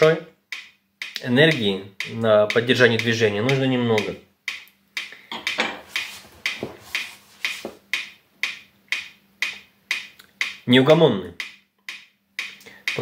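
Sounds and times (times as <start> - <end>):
metronome ticking: 0.0 - 13.0.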